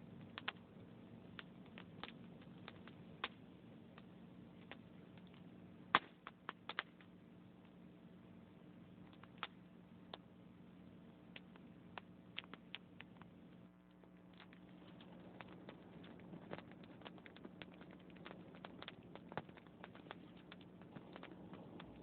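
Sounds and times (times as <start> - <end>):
faint low hum: 0.0 - 22.0
logs crackling in fireplace: 0.0 - 22.0.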